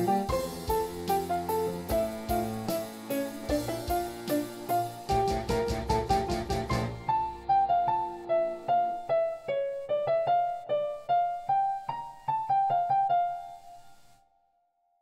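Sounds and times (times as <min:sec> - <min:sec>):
slow piano melody on keyboard: 0:00.0 - 0:14.5.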